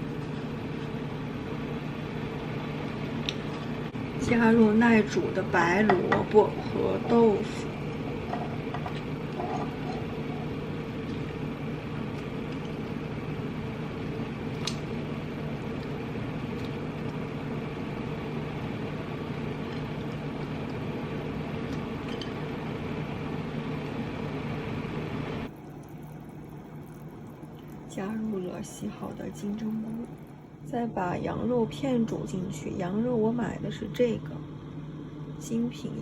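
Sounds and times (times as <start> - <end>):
kitchen fan humming: 0.0 - 36.0.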